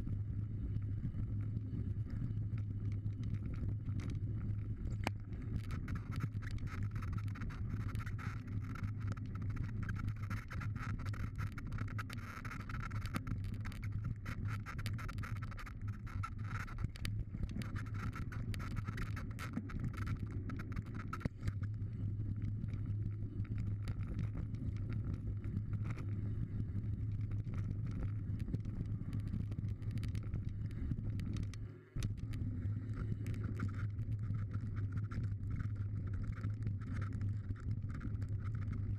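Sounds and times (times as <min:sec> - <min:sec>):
wind on microphone: 0:00.0 - 0:38.9
bike clicks and rattles: 0:01.4 - 0:38.9.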